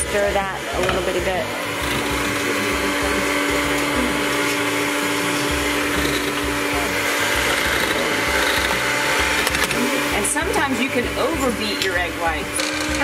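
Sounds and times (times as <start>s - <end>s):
electric hand mixer humming: 0.0s - 13.0s.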